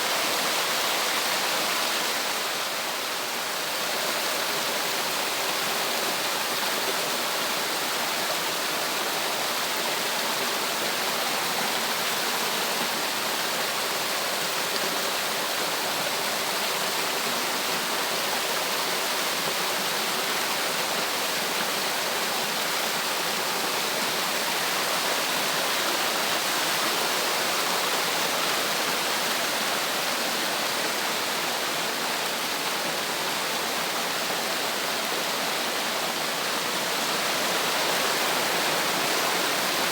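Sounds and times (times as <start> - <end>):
water rushing down a cascade: 0.0 - 39.9.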